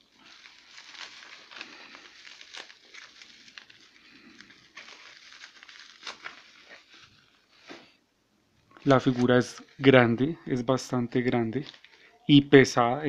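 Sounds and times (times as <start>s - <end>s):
bubble wrap crackling: 0.0s - 8.0s, 8.6s - 12.6s.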